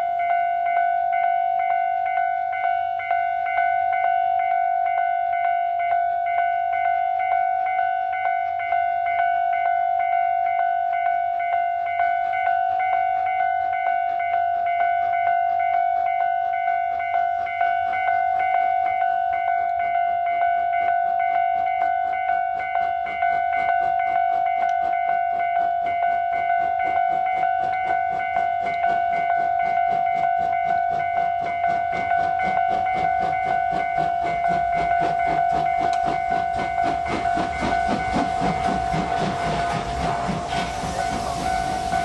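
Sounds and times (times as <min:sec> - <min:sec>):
level crossing bell ringing: 0:00.0 - 0:39.8
steam locomotive running: 0:00.0 - 0:42.0.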